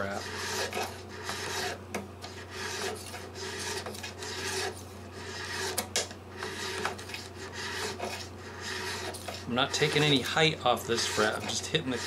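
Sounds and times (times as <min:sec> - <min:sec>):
metal file rasping on fret: 0:00.0 - 0:12.0.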